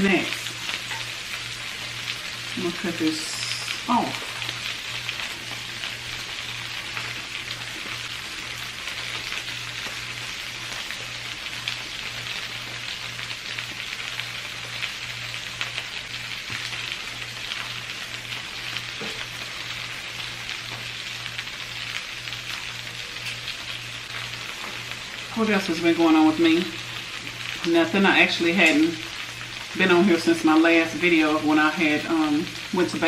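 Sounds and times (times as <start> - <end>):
food sizzling in a skillet: 0.0 - 33.0.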